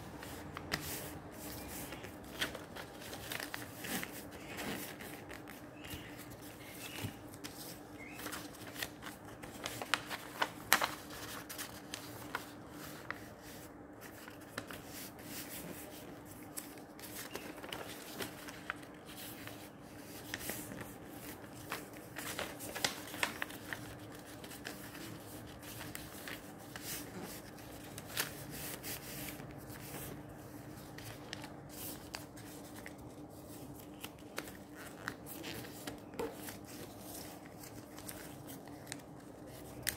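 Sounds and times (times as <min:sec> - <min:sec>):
faint steady hum: 0:00.0 - 0:39.9
paper folding and rustling: 0:00.0 - 0:39.9.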